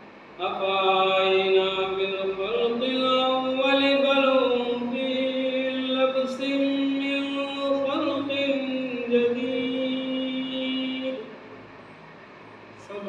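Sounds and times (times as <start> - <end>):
man reciting in melodic chant: 0.4 - 11.4, 12.8 - 13.0.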